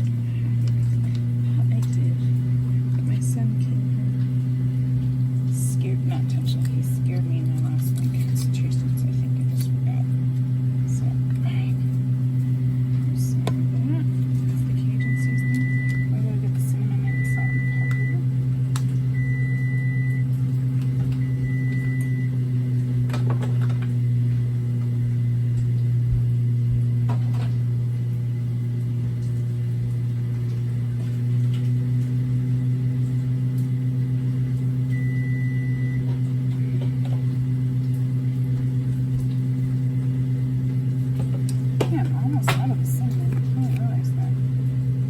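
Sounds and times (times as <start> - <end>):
appliance motor humming: 0.0 - 45.0.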